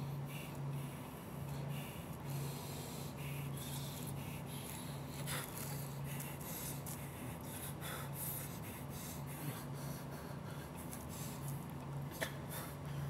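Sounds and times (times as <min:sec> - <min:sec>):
low steady hum: 0:00.0 - 0:13.0
man breathing heavily: 0:00.0 - 0:13.0.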